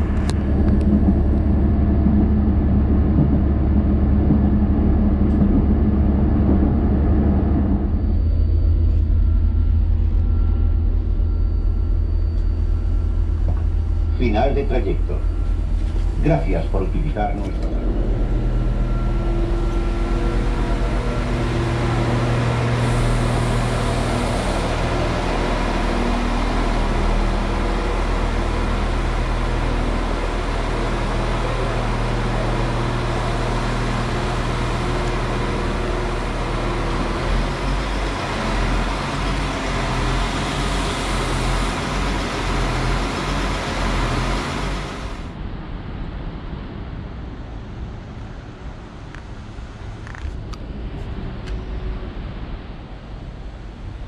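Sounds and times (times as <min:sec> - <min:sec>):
diesel engines idling: 0:00.0 - 0:45.4
outdoor ambience: 0:00.0 - 0:54.0.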